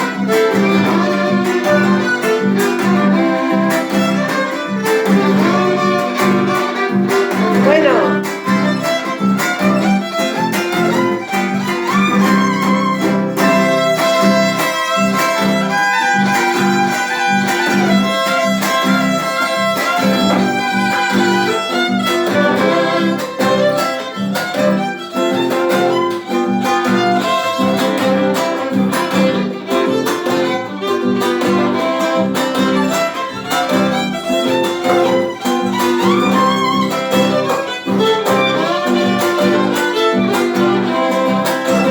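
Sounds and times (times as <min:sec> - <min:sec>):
strummed guitar rhythm: 0:00.0 - 0:41.9.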